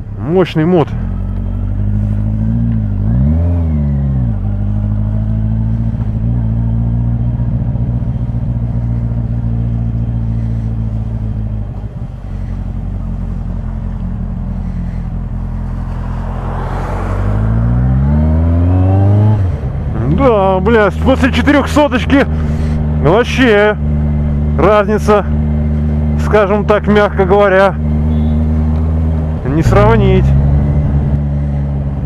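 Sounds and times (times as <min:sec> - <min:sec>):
motorcycle engine revving: 0:00.9 - 0:32.0.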